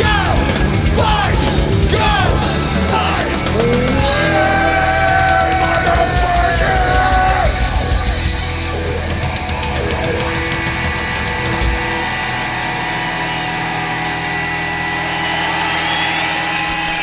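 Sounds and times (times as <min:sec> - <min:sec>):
live heavy rock band: 0:00.0 - 0:17.0.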